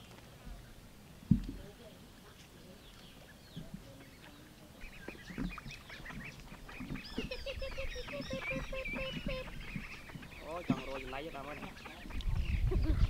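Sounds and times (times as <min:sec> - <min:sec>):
ducklings peeping: 0:01.6 - 0:13.0.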